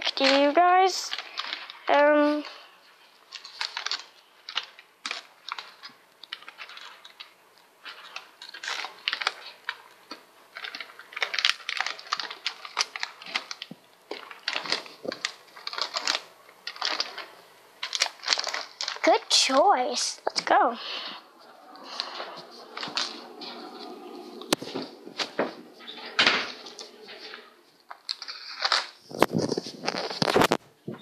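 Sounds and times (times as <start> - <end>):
snack packages rustling: 0.0 - 30.6.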